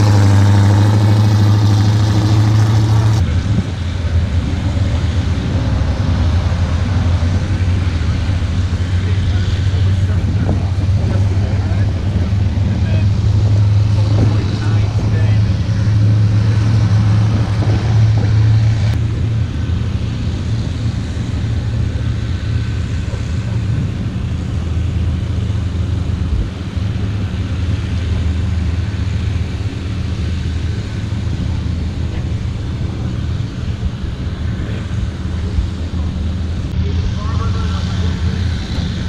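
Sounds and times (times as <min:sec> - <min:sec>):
car engine idling: 0:00.0 - 0:17.4, 0:18.0 - 0:39.0.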